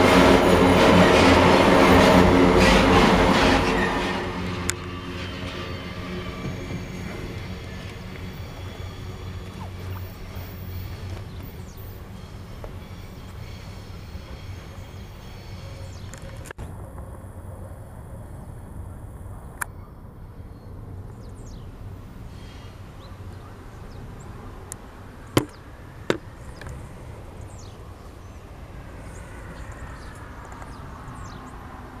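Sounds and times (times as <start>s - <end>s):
distant freight train rumble: 0.0s - 32.0s.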